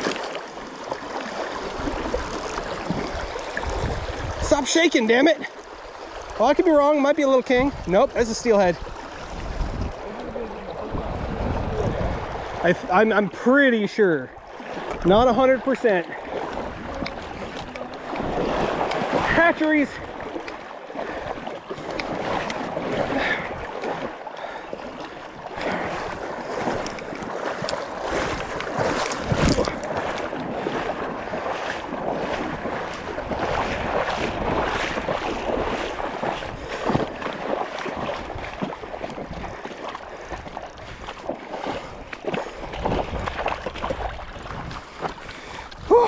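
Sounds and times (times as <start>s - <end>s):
river water rushing: 0.0s - 46.0s
wind buffeting microphone: 1.6s - 4.7s, 7.6s - 13.2s, 16.1s - 24.2s, 25.0s - 46.0s.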